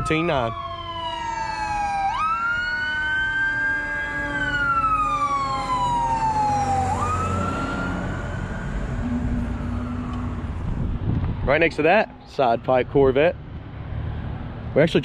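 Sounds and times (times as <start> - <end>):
emergency sirens wailing: 0.0 - 13.4
traffic rumble: 0.0 - 15.0.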